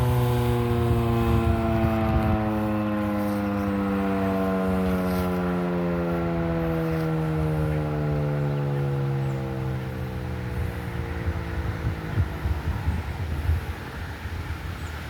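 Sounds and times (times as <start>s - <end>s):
siren winding down: 0.0s - 13.3s.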